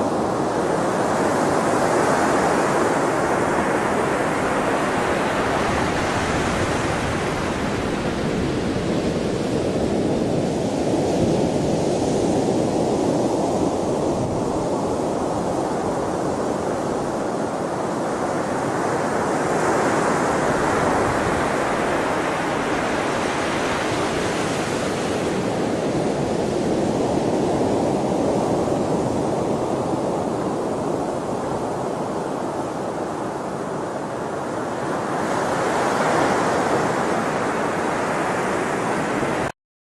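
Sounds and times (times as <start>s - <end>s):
sea waves washing ashore: 0.0s - 39.5s.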